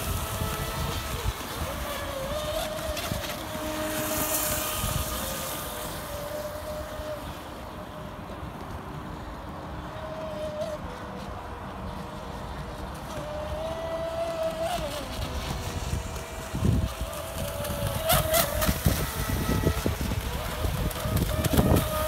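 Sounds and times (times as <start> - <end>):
boat motor whine: 0.0 - 22.0.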